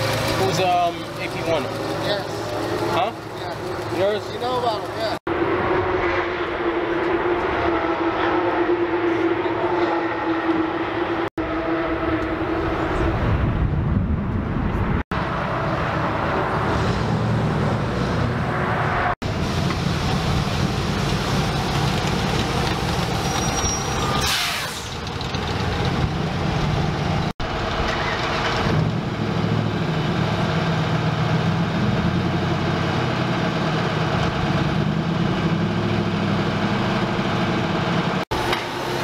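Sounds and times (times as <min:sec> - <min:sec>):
car engine drone: 0:00.0 - 0:39.0
rough engine rumble: 0:00.0 - 0:39.0.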